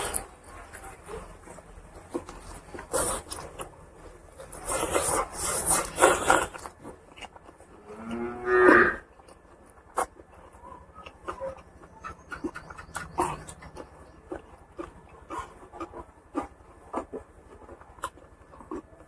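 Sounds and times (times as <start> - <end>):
wet chewing and smacking: 0.0 - 8.3, 9.0 - 19.0.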